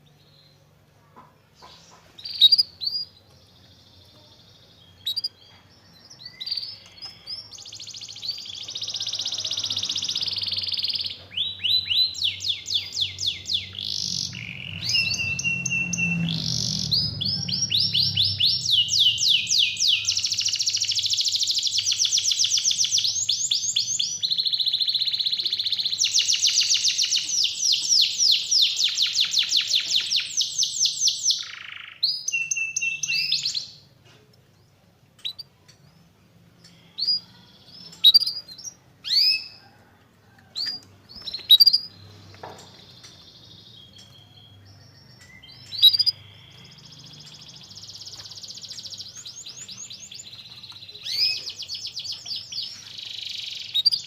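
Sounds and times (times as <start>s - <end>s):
canary singing trills: 1.4s - 34.0s, 34.7s - 54.0s
short canary chirps: 1.6s - 4.0s, 4.8s - 33.8s, 40.6s - 42.1s, 42.7s - 54.0s.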